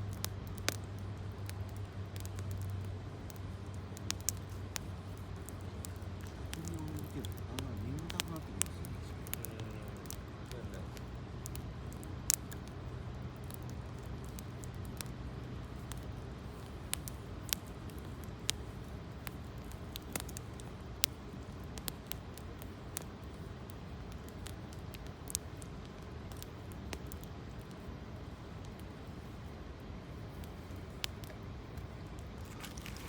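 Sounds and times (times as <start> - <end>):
campfire crackling: 0.0 - 33.0
fire popping: 0.0 - 33.0.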